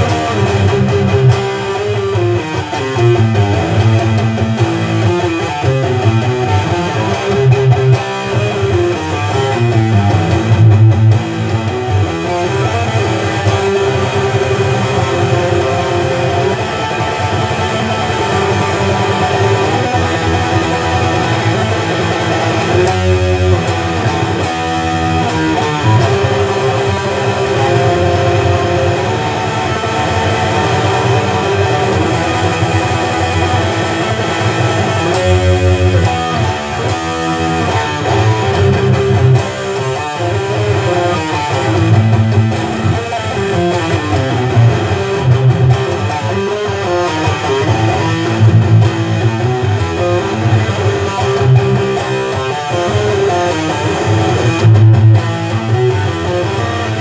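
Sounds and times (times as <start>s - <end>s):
electric guitar riff: 0.0s - 57.0s.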